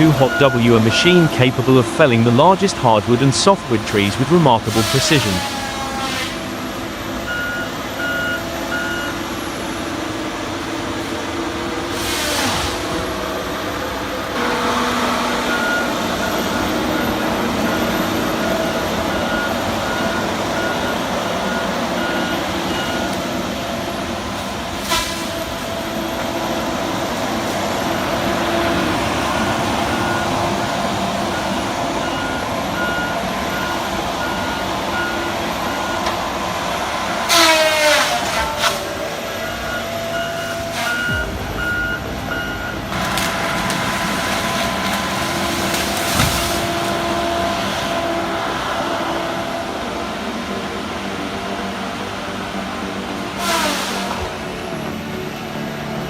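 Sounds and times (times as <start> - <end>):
reversing alarm beeping: 0.0 - 11.4, 12.9 - 37.8, 38.4 - 49.8
heavy machinery engine running: 0.0 - 56.0.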